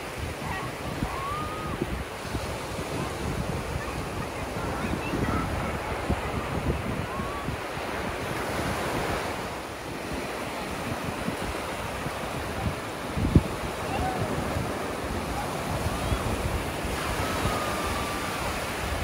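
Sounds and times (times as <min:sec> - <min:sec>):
ocean surf on sand beach: 0:00.0 - 0:19.0
wind gusting on microphone: 0:00.0 - 0:19.0.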